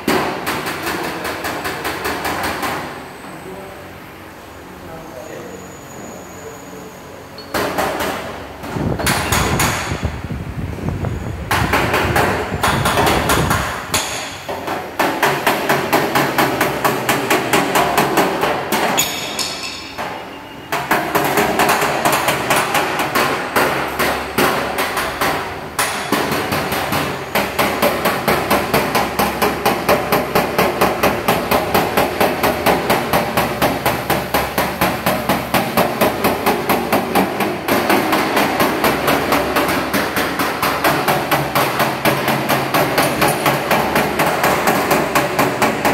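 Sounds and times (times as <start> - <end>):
hammer striking sheet metal: 0.0 - 3.0, 7.4 - 10.2, 11.4 - 45.9.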